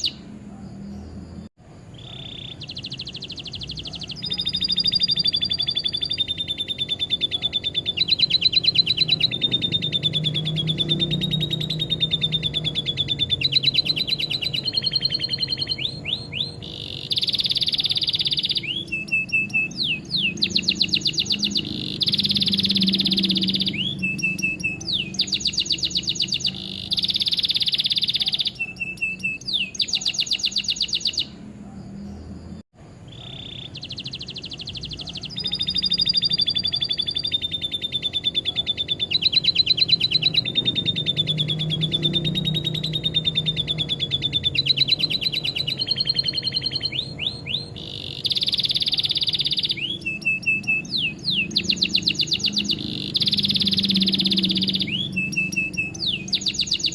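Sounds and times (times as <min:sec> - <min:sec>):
bird chattering trills: 0:00.0 - 0:00.4, 0:02.0 - 0:31.4, 0:33.1 - 0:56.9
canary singing trills: 0:00.0 - 0:56.9.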